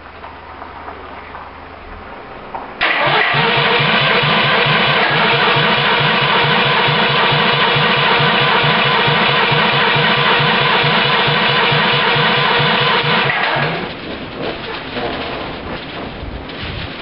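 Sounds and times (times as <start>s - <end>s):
car engine turning over: 2.3s - 17.0s.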